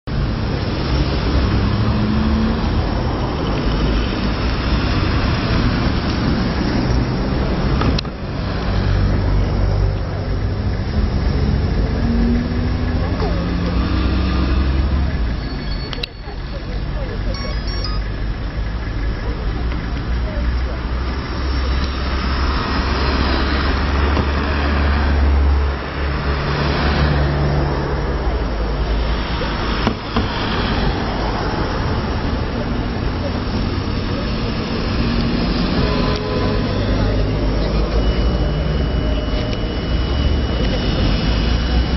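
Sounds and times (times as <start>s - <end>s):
car engines and tyres rumbling: 0.0s - 41.9s.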